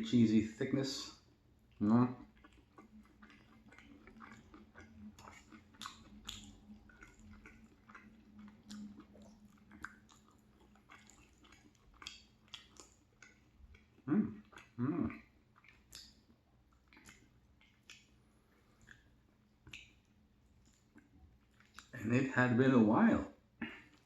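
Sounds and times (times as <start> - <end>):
wet chewing mouth clicks: 1.7 - 22.0.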